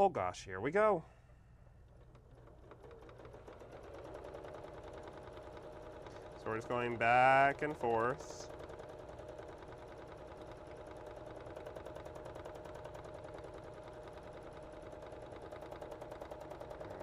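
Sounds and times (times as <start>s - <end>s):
sewing machine running: 1.7s - 17.0s.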